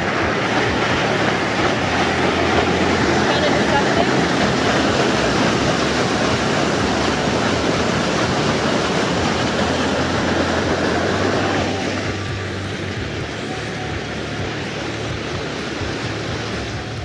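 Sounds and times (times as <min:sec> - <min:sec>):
rushing water and machinery: 0:00.0 - 0:17.0.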